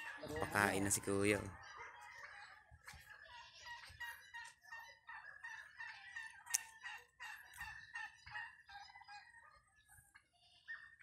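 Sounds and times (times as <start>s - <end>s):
poultry clucking and chirping: 0.0s - 11.0s.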